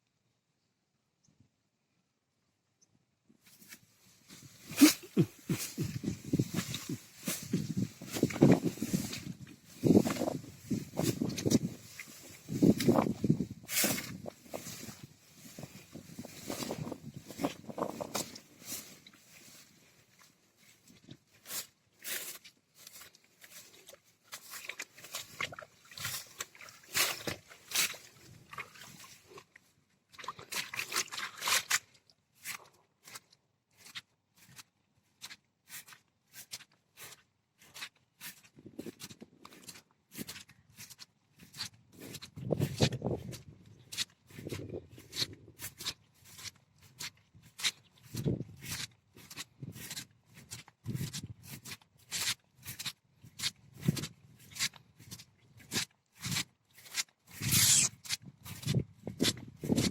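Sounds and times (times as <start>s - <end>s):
footsteps on dry ground: 3.5s - 59.9s.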